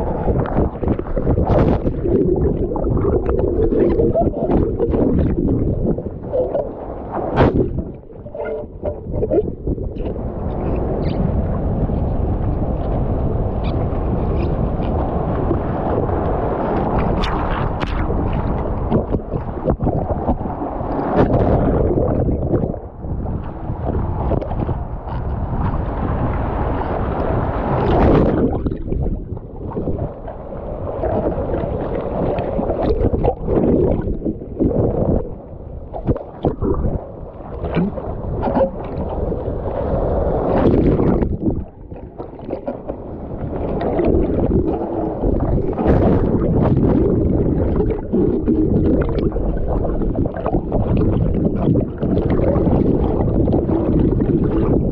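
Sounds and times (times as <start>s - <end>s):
muffled water over microphone: 0.0s - 54.9s
ocean surf sloshing: 0.0s - 54.9s.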